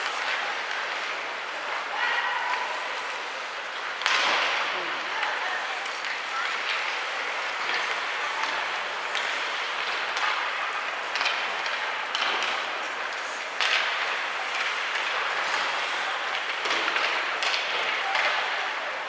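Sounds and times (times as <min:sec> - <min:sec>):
hockey sticks scraping and clacking: 0:00.0 - 0:18.9.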